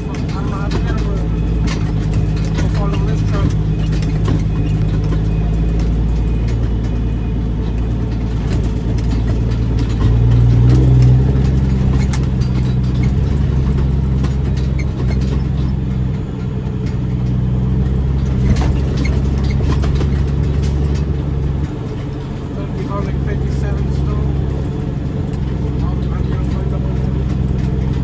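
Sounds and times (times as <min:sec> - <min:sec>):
diesel truck engine drone: 0:00.0 - 0:28.0.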